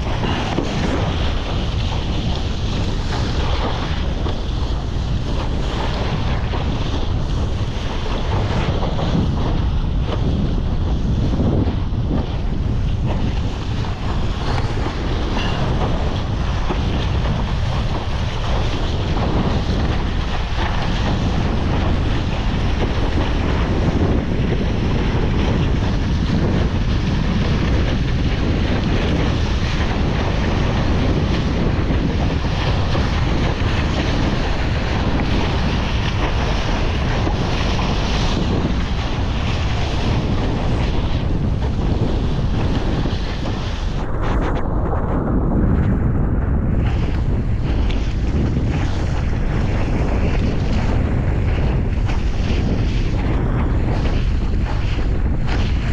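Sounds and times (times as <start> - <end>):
water splashing along board hull: 0.0 - 55.9
wind buffeting microphone: 0.0 - 55.9.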